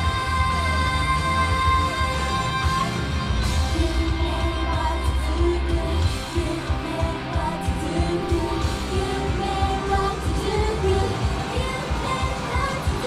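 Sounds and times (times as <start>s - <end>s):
pop backing track with heavy bass: 0.0s - 13.0s
woman singing into microphone: 0.0s - 13.0s.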